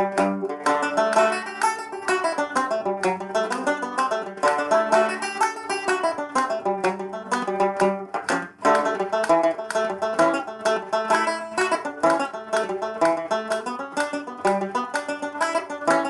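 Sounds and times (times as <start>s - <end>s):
banjo picking a jig: 0.0s - 16.0s.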